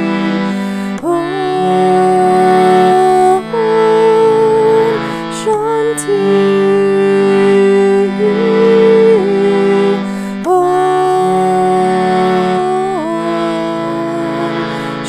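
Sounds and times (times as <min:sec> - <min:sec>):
sustained low accompanying tones: 0:00.0 - 0:14.7
person chanting long sung notes: 0:00.0 - 0:15.0.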